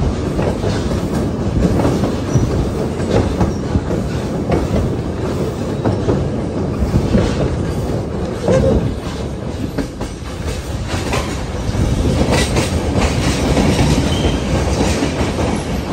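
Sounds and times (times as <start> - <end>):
clacks at rail joints: 0.0 - 15.9
train wheels rumbling on rails: 0.0 - 15.9.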